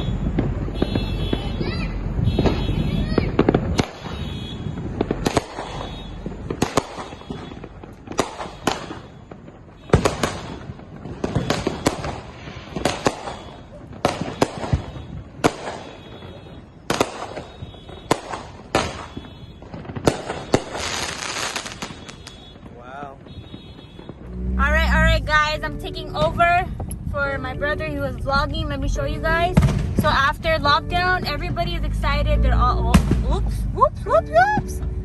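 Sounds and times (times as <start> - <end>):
fireworks bangs: 0.0 - 35.0
fireworks crackling: 0.0 - 35.0.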